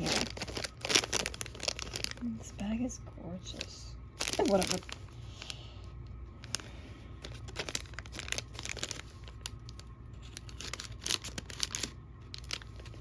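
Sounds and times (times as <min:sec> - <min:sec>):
plastic packaging crinkling and tearing: 0:00.0 - 0:02.6, 0:03.4 - 0:05.6, 0:06.4 - 0:13.0.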